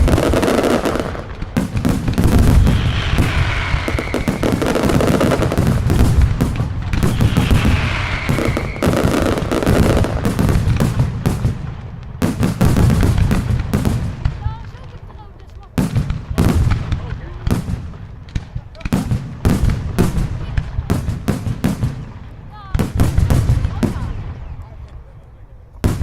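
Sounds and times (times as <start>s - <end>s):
firework bangs: 0.0s - 25.1s, 25.8s - 26.0s.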